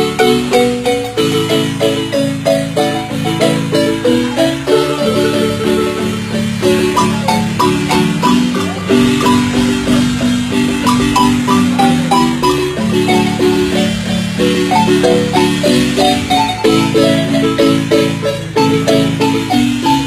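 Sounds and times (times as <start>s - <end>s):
marimba band playing: 0.0s - 20.0s.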